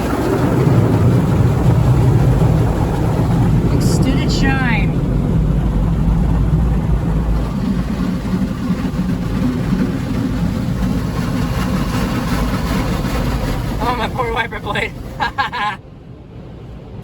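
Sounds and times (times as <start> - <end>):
water jets spraying car body: 0.0 - 15.8.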